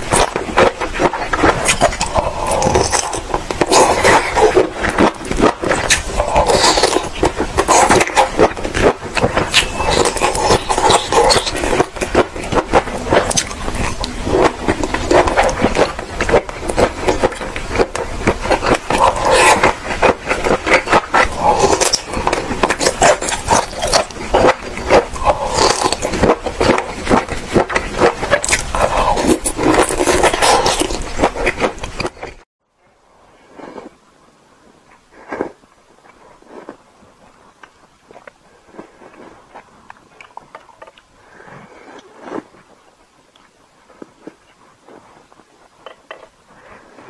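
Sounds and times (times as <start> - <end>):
wet chewing and mouth clicks: 0.0 - 32.4, 34.9 - 47.0.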